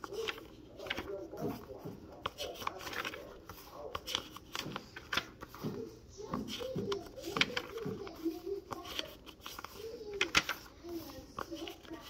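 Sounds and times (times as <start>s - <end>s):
notebook pages turning: 0.0s - 12.0s.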